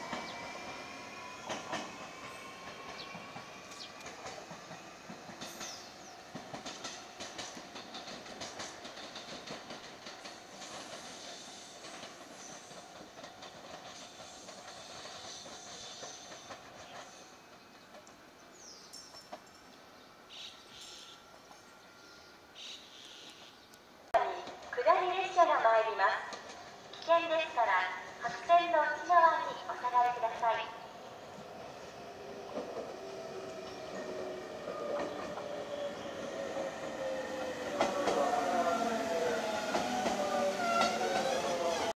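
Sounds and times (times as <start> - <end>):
electric train running on rails: 0.0 - 41.9.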